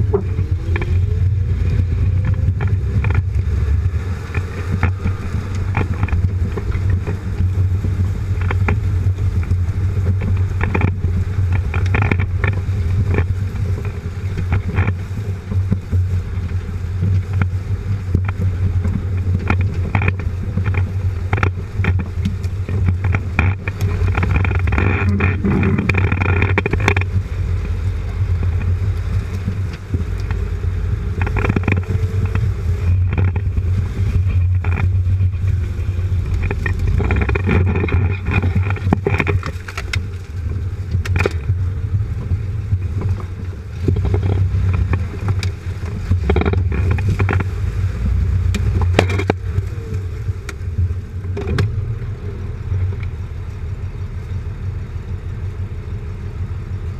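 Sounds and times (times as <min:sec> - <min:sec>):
tyres crunching over sticks: 0:00.0 - 0:53.6
engine and drivetrain drone: 0:00.0 - 0:56.9.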